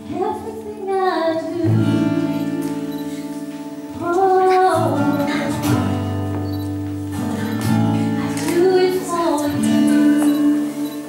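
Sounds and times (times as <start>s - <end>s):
slow song with singer: 0.0s - 11.0s.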